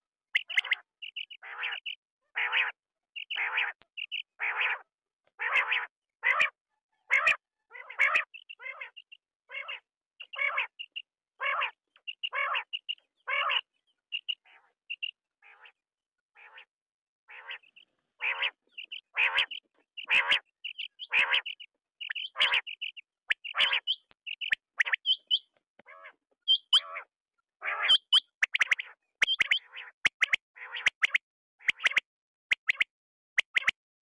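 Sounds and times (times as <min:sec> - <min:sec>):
quail calling: 0:00.4 - 0:04.8, 0:05.4 - 0:15.8, 0:17.3 - 0:32.0.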